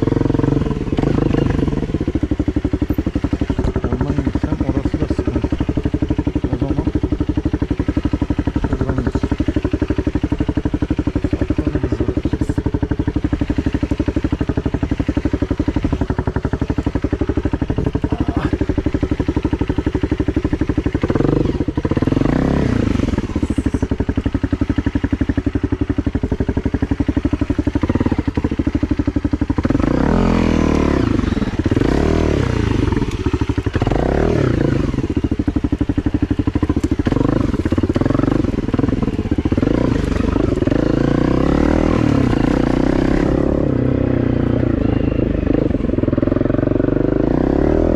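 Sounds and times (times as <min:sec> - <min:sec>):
engine running with rapid pulse: 0:00.0 - 0:47.9.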